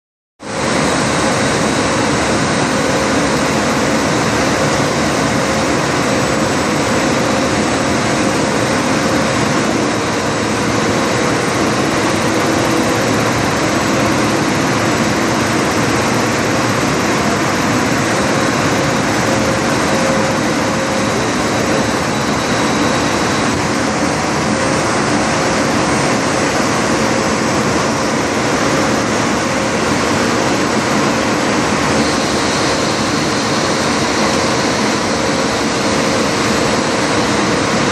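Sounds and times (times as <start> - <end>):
faint steady whines: 0.4 - 37.9
printing press running: 0.5 - 37.9.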